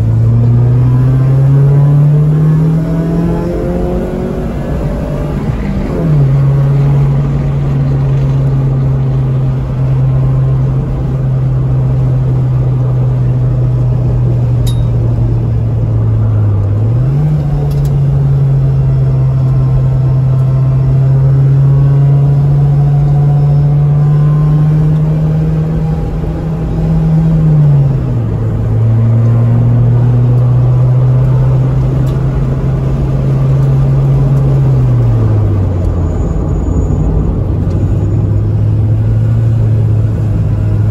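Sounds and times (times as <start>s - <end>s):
car engine pulling hard: 0.0s - 40.9s
road and wind noise: 0.0s - 40.9s.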